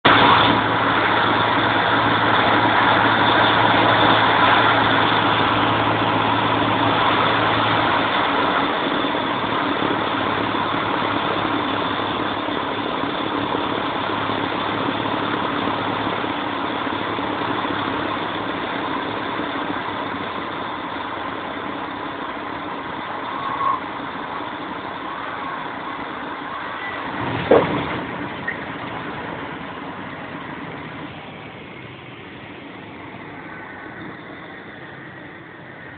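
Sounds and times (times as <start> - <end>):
propeller plane engine running: 0.0 - 35.9.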